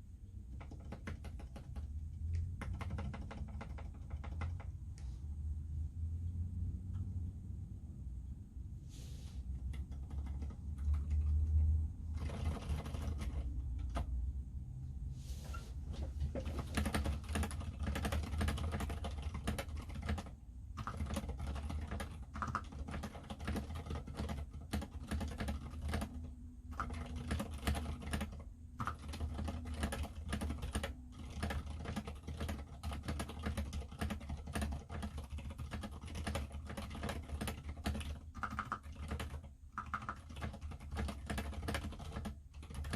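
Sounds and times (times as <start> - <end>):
typing on mechanical keyboard: 0.4 - 4.9, 9.6 - 14.2, 16.2 - 42.9.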